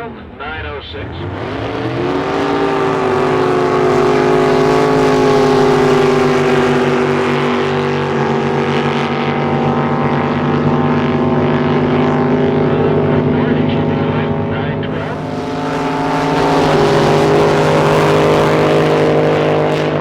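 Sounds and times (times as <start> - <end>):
boat engine running loud: 0.0 - 20.0.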